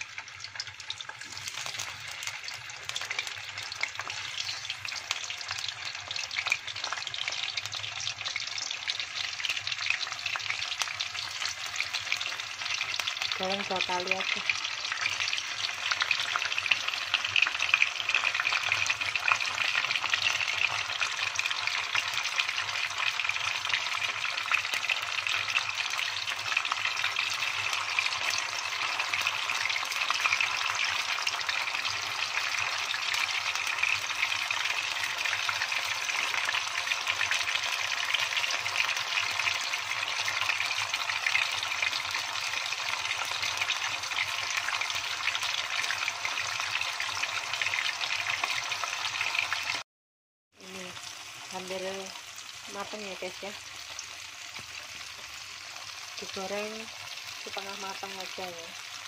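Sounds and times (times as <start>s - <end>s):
tofu sizzling in hot oil: 0.0s - 49.8s, 50.6s - 59.0s.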